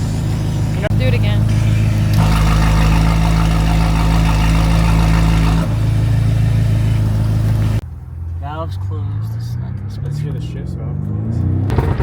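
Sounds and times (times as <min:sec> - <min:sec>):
loud deep car exhaust: 0:00.0 - 0:12.0.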